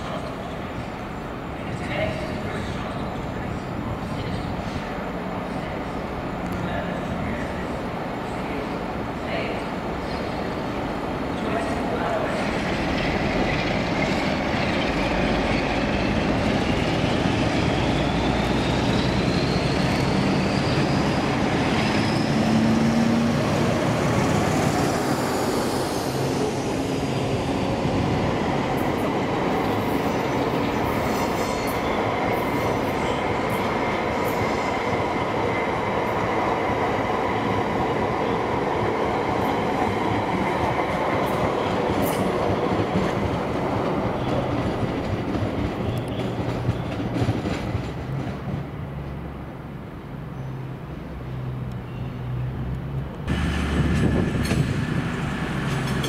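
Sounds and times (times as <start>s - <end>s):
train running with high whine: 0.0s - 56.0s.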